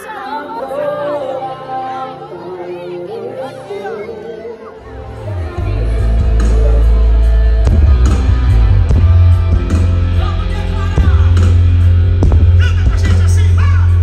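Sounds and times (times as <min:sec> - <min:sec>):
person singing: 0:00.0 - 0:11.6
live gospel music with heavy bass: 0:00.0 - 0:14.0.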